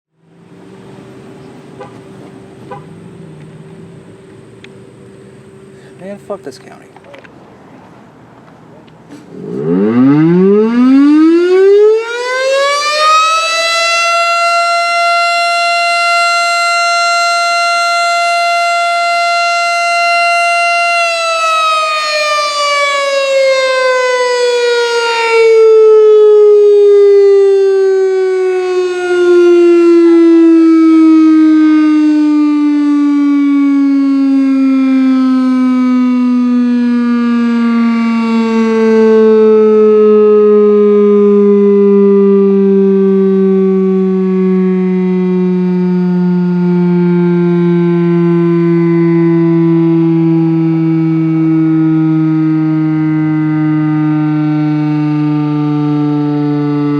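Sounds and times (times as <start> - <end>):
rotating siren wailing: 9.3 - 56.9.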